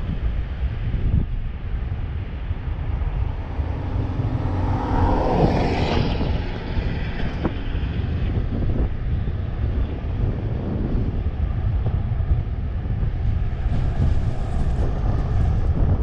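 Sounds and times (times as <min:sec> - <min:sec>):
low hum: 0:00.0 - 0:16.0
road noise: 0:00.0 - 0:16.0
wind on microphone: 0:00.0 - 0:16.0.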